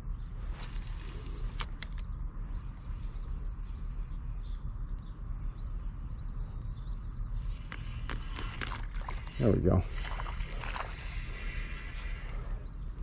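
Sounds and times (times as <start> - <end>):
faint bird chirps: 0.0 - 13.0
steady low rumble: 0.0 - 13.0.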